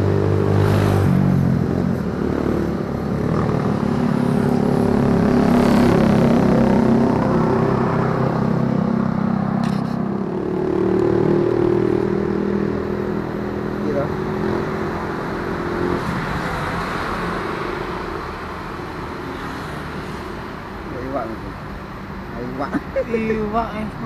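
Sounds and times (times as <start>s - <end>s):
passing traffic engine drone: 0.0s - 24.0s.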